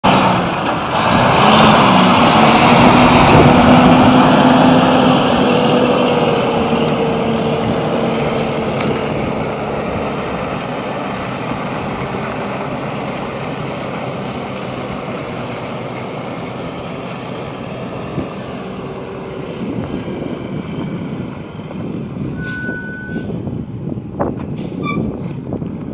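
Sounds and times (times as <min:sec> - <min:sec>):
diesel truck pulling away: 0:00.0 - 0:25.9.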